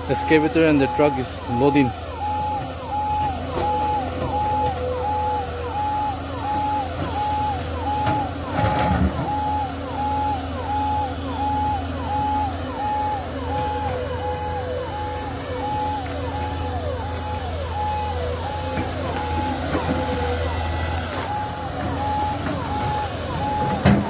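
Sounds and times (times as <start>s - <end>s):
ambulance siren: 0.0s - 24.0s
heavy engines running: 0.0s - 24.0s.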